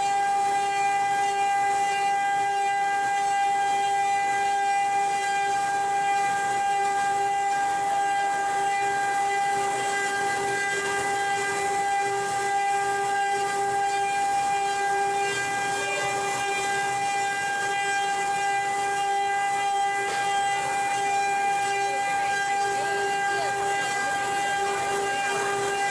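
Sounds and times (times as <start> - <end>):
router spindle high whine: 0.0 - 25.9.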